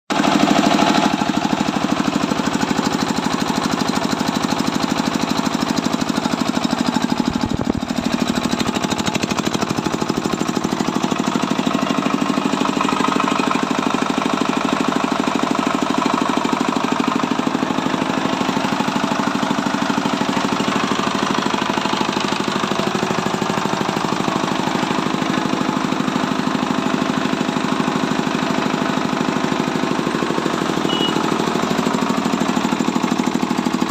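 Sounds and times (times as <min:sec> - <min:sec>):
diesel engine knocking steadily: 0:00.1 - 0:33.9.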